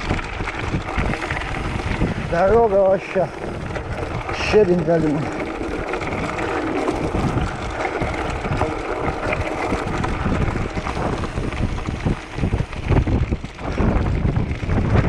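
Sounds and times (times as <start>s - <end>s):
bike rattling: 0.0s - 15.0s
bike tyres crunching on gravel: 0.0s - 15.0s
wind buffeting microphone: 0.0s - 15.0s.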